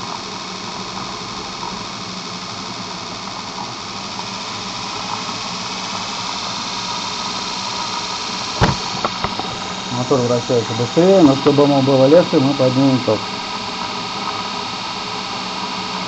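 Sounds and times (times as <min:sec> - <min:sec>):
electric motor humming: 0:02.5 - 0:16.0.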